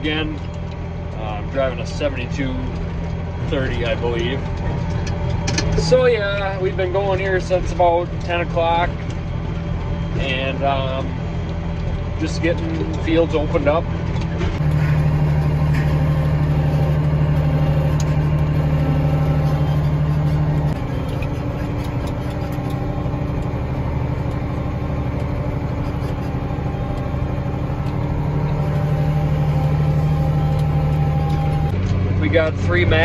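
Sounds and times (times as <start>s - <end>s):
tractor diesel engine from cab: 0.0s - 33.0s.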